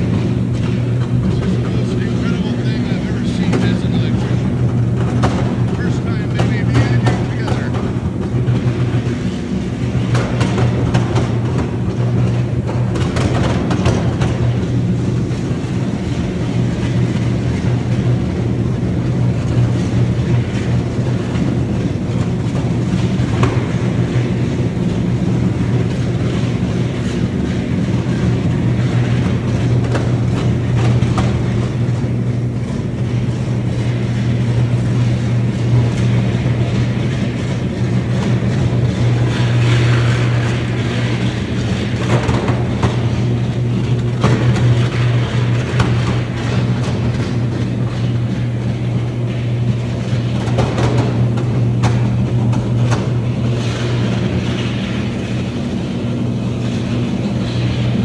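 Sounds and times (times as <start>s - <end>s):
deep electrical buzz: 0.0s - 58.0s.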